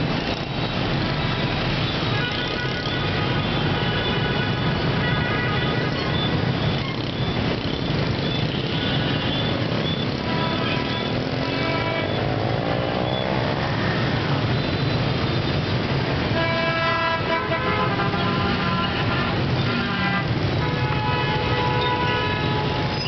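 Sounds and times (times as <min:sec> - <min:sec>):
scooter and bus engines: 0:00.0 - 0:23.0
horns tooting: 0:01.9 - 0:23.0.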